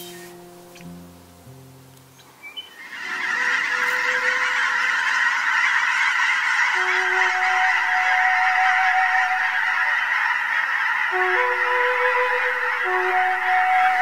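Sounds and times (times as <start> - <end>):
soft sustained music notes: 0.0 - 14.0
flock of geese honking: 2.6 - 14.0.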